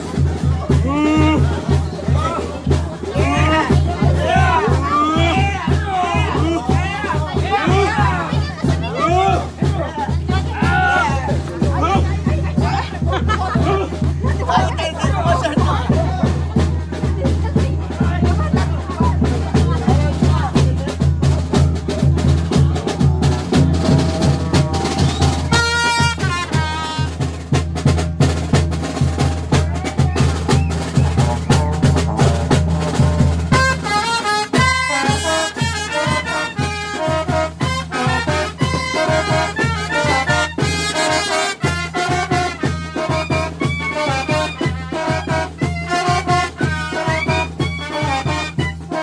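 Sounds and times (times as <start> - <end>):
brass band playing: 0.0 - 49.0
drums keeping a beat: 0.0 - 49.0.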